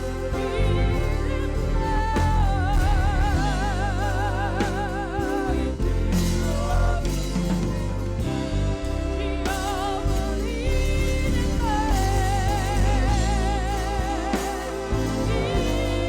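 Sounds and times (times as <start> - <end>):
band accompaniment with deep bass: 0.0 - 16.0
person singing with vibrato: 0.0 - 16.0.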